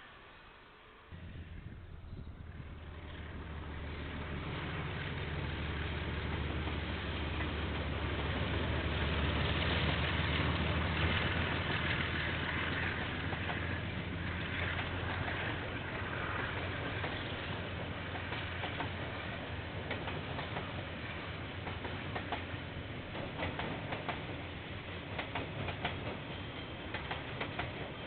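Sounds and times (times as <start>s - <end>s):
diesel train engine hum: 0.0s - 28.0s.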